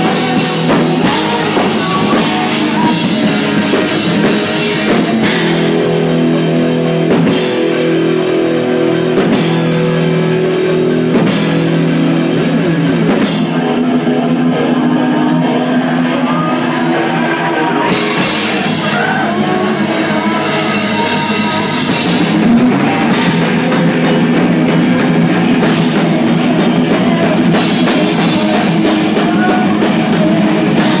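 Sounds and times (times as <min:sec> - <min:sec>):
bass guitar: 0:00.0 - 0:31.0
drum kit: 0:00.0 - 0:31.0
electric guitar: 0:00.0 - 0:31.0.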